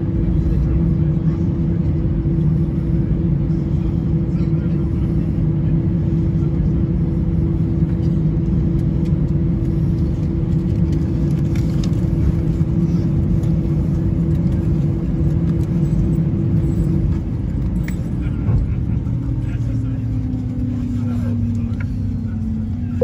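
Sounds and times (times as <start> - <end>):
jet engines idling rumble: 0.0 - 23.0.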